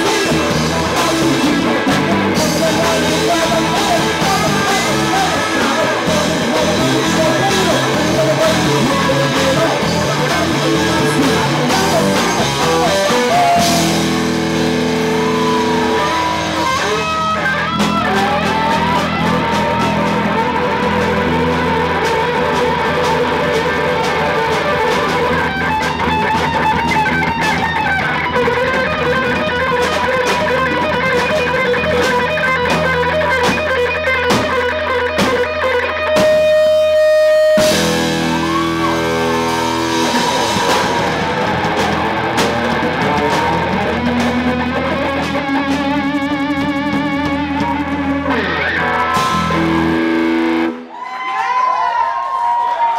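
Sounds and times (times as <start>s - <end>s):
held guitar chords ringing: 0.0s - 50.9s
rock band playing: 0.0s - 52.9s.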